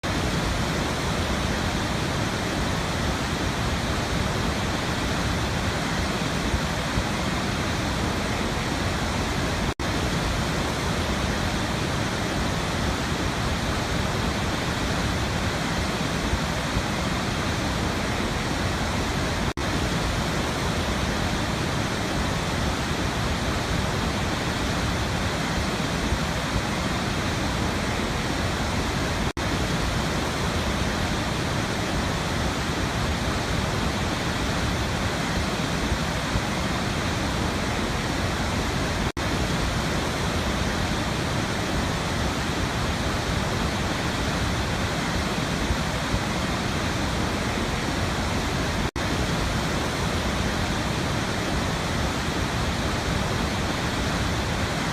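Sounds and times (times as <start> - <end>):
waterfall roaring: 0.0 - 54.9.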